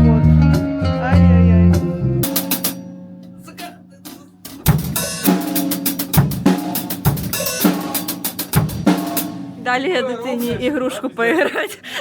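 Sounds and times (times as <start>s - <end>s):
drum kit beat: 0.0s - 10.7s.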